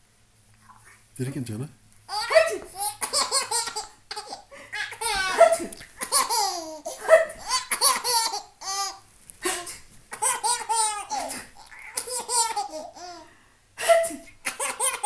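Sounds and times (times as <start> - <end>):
young child laughing: 2.1 - 15.0.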